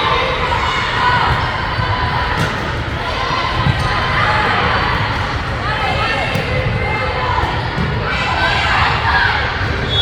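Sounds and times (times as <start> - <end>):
crowd cheering and shouting: 0.0 - 10.0.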